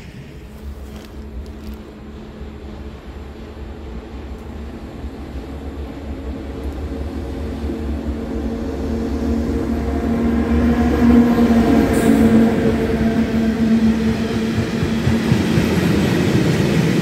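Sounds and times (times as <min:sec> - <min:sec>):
electric locomotive rumbling: 0:00.0 - 0:17.0.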